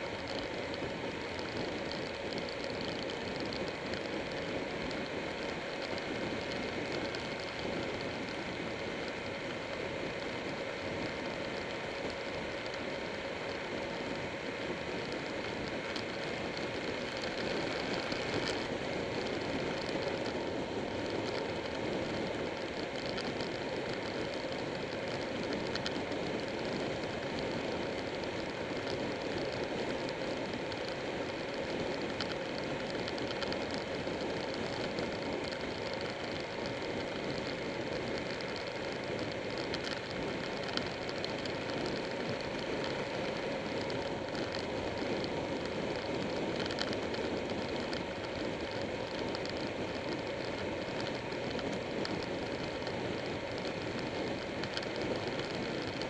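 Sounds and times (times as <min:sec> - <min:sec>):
motorcycle engine hum: 0:00.0 - 0:56.0.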